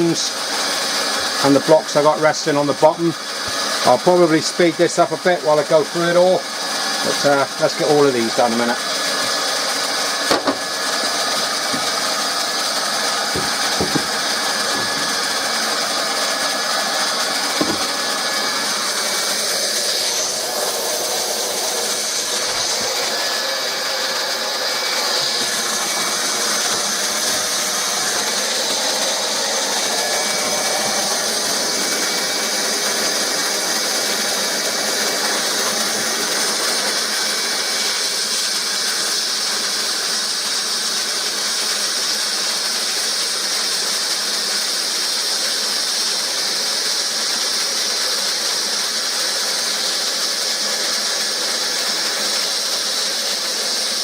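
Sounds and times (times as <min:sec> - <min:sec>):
hot-air welding gun hissing: 0:00.0 - 0:54.0.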